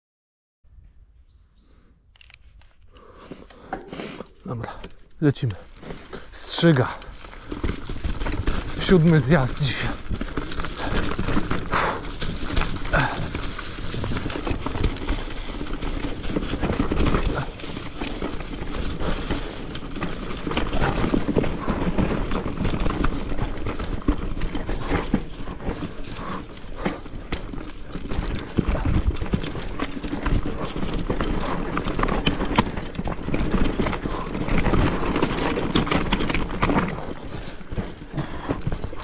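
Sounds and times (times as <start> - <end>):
bike tyres rolling over leaves: 3.0 - 39.0
bike knocks and rattles: 5.9 - 39.0.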